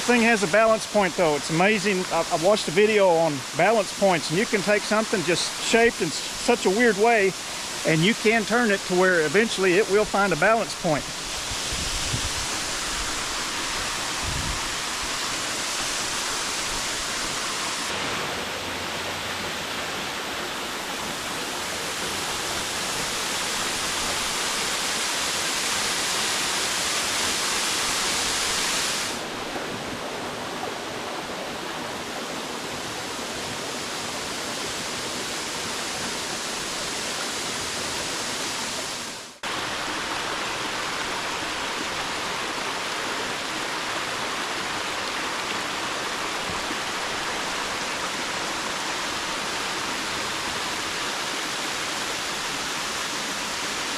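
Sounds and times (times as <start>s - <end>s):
waterfall rushing over rocks: 0.0s - 53.9s.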